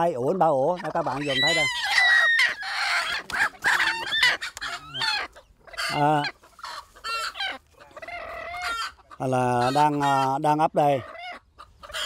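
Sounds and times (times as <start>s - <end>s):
hen clucking and squawking: 0.0s - 12.0s.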